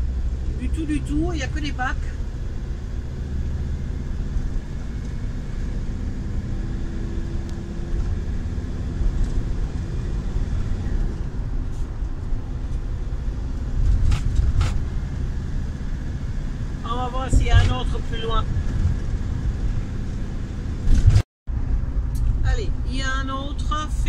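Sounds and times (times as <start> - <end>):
engine and tyre rumble in cab: 0.0 - 24.0.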